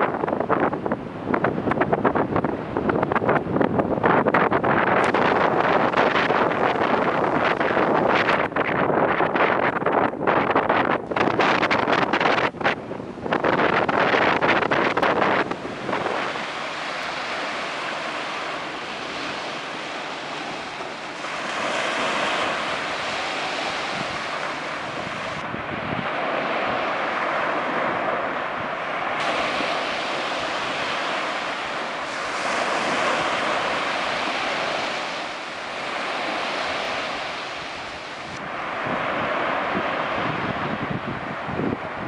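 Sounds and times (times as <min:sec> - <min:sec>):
waves washing up beach: 0:00.0 - 0:42.0.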